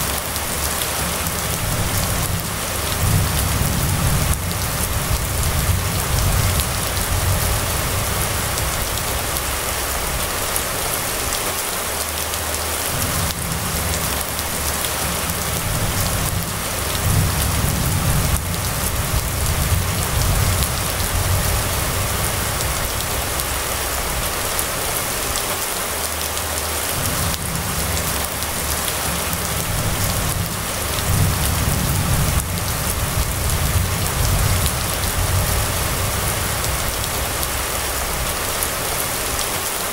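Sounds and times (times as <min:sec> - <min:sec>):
steady rain falling: 0:00.0 - 0:39.9
low rumble: 0:00.7 - 0:11.3, 0:12.8 - 0:24.7, 0:26.9 - 0:39.3.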